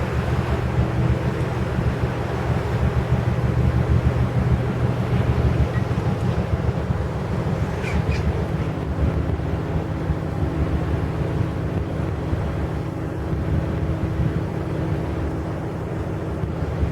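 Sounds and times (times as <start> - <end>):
faint ship engine hum: 0.0 - 16.9
wind buffeting microphone: 0.0 - 16.9.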